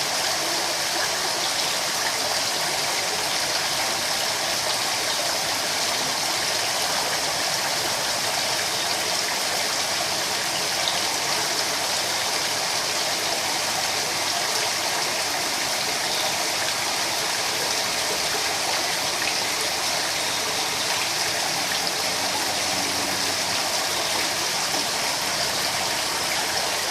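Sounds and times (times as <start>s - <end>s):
water splashing into pond: 0.0s - 26.9s.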